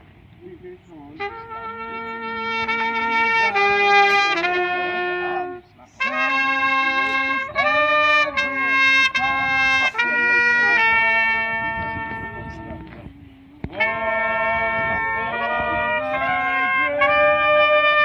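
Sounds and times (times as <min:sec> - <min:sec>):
brass instrument playing slow tune: 0:01.1 - 0:18.0.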